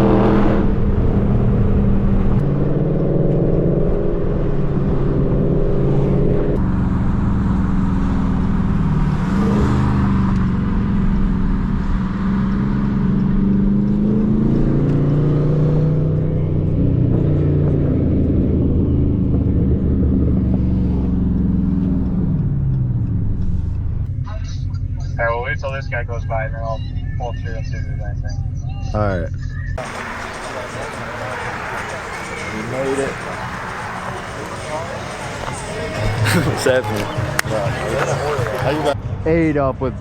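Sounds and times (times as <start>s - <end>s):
car engine cruising: 0.0s - 40.0s.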